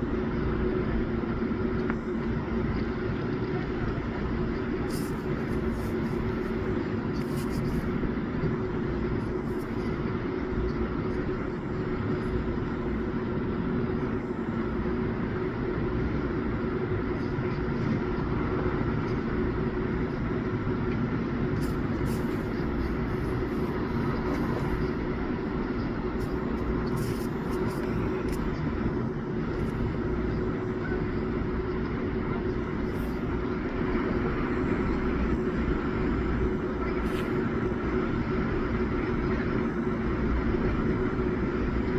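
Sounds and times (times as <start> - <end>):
continuous rushing noise: 0.0 - 41.9
machine hum with constant tones: 0.0 - 41.9.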